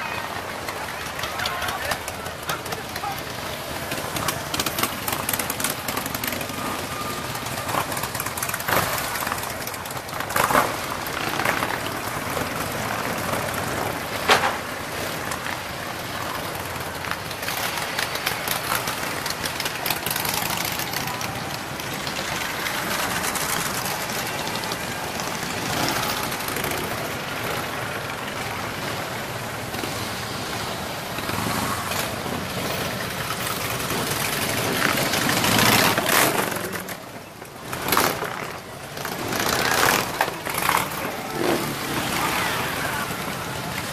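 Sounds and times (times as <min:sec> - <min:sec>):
motorcycles riding past: 0:00.0 - 0:43.9.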